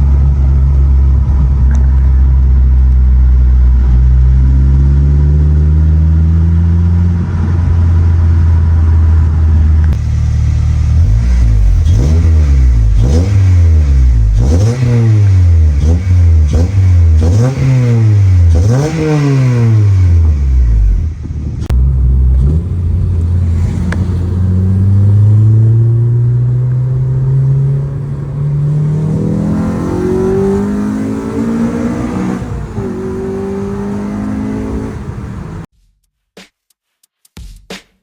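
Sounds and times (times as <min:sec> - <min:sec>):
car engine revving: 0:00.0 - 0:35.7.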